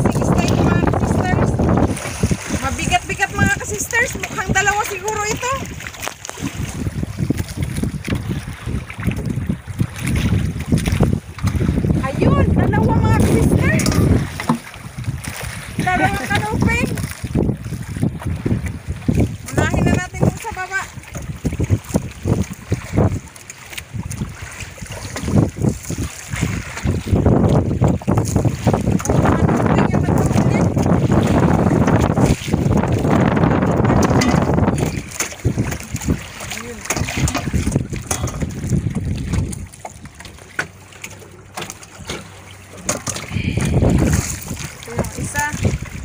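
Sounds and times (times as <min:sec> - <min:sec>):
wind gusting on microphone: 0:00.0 - 0:40.3, 0:41.9 - 0:46.0
sea water splashing: 0:00.0 - 0:46.0.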